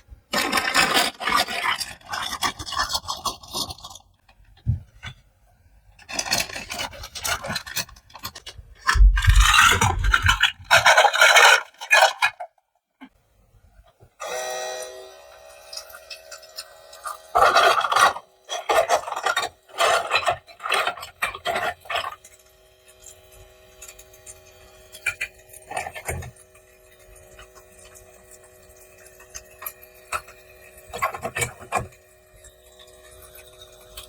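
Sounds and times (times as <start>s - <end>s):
plastic toy parts rasping: 0.0s - 5.2s, 5.8s - 12.6s, 15.5s - 34.0s.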